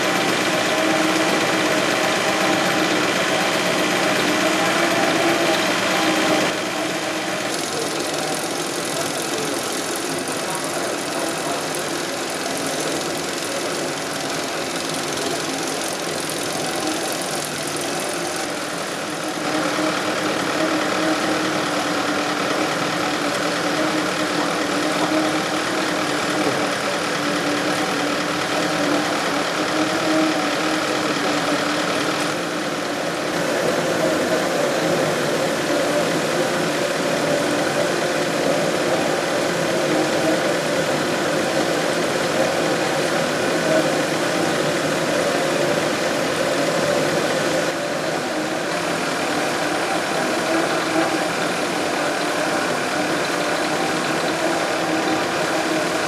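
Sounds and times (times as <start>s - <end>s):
machine conveyor and motor: 0.0s - 56.0s.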